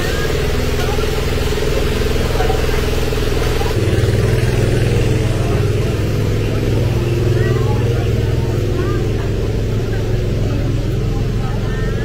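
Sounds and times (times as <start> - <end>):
faint crowd voices: 0.0 - 12.0
loud machine drone: 0.0 - 12.0.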